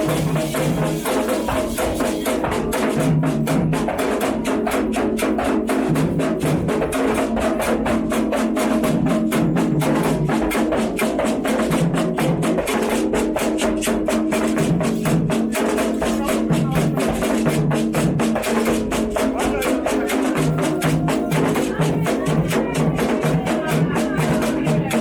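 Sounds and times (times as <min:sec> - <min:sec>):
hand drums fast rhythm: 0:00.0 - 0:25.0.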